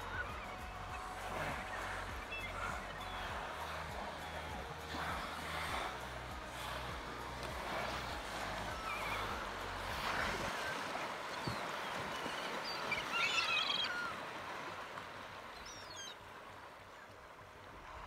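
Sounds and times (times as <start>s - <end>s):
water washing: 0.0s - 16.1s
gulls calling: 0.0s - 17.2s.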